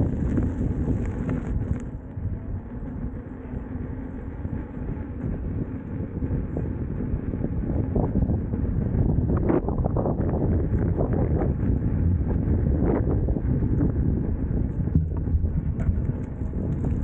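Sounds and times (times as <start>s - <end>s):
wheel rolling rumble: 0.0s - 17.0s
wind buffeting microphone: 0.0s - 17.0s.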